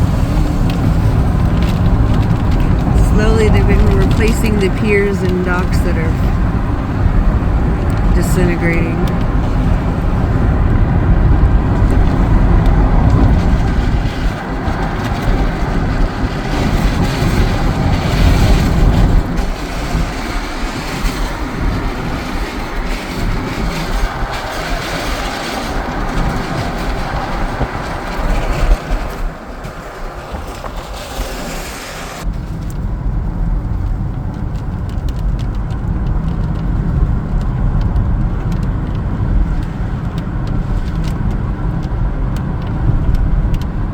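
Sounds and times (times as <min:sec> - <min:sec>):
car engine rumble: 0:00.0 - 0:43.9.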